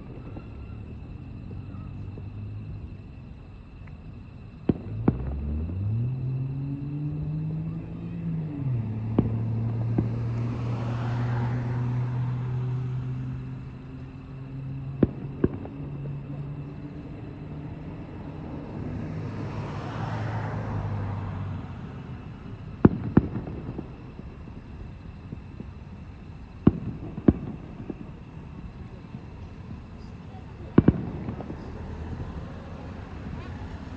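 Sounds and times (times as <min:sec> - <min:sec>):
distant fireworks bangs: 0:00.0 - 0:33.9
engine humming: 0:00.0 - 0:33.9.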